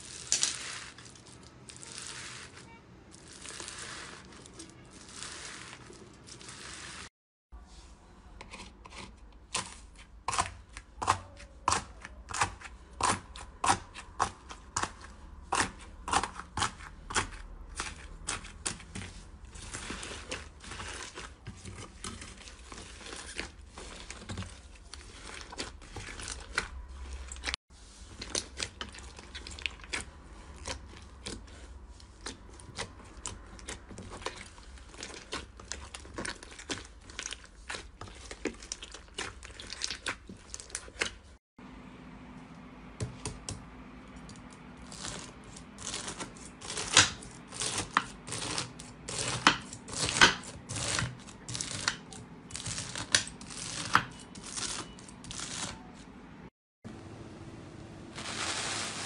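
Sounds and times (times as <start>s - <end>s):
slime crackling and squelching: 0.0s - 7.1s, 8.5s - 41.4s, 44.8s - 56.0s.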